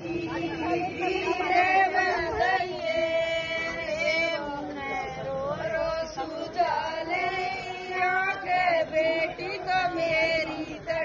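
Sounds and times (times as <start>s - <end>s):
women singing a folk song: 0.0s - 11.0s.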